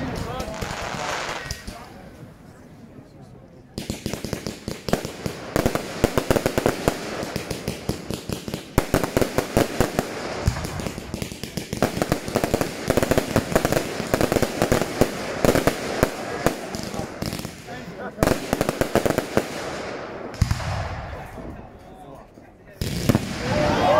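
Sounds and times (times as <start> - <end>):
fireworks crackling and popping: 0.0 - 2.4, 3.7 - 21.8, 22.8 - 23.9.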